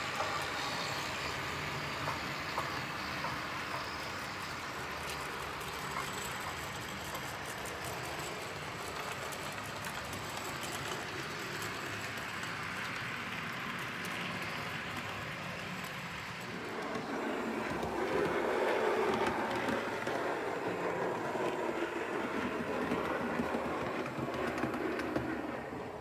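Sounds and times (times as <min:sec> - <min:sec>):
model train rumbling on track: 0:00.0 - 0:26.0.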